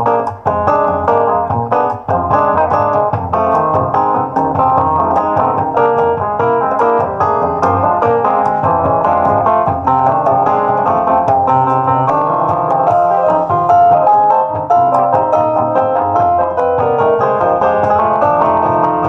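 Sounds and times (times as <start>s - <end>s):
piano playing: 0.0s - 19.0s.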